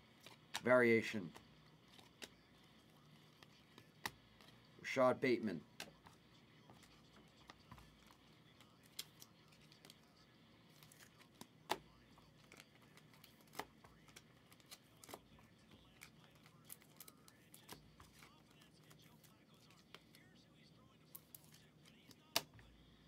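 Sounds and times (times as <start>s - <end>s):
trading cards clicking and tapping: 0.1s - 10.1s, 10.7s - 20.2s, 21.1s - 22.7s.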